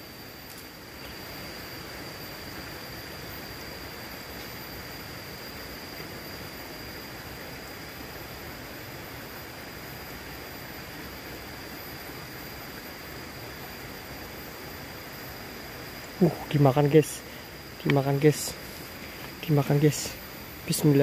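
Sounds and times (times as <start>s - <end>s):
forest ambient hiss: 0.0s - 21.0s
high-pitched insect tone: 0.0s - 21.0s.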